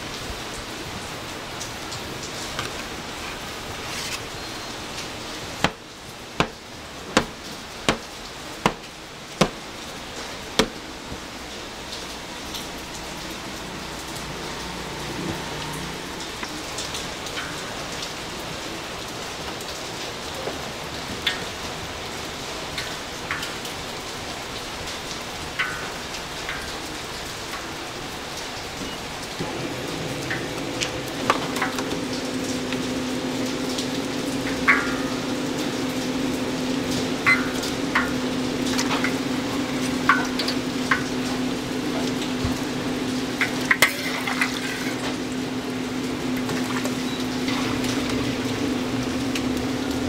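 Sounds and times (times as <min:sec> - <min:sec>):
hot oil crackling and popping: 0:00.0 - 0:50.0.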